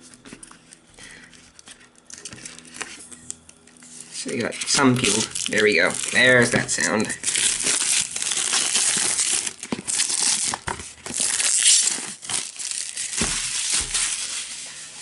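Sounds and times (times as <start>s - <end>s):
plastic shrink wrap crinkling: 1.5s - 15.0s.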